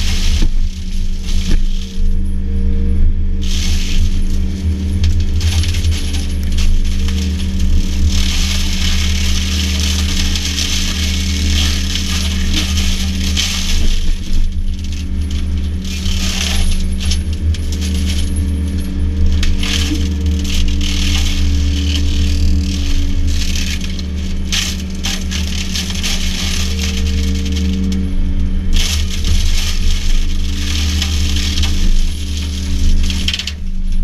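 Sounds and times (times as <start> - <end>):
debris cracking and rattling: 0.0 - 34.0
machine engine droning: 0.0 - 34.0
mulcher chewing brush and wood: 0.0 - 34.0.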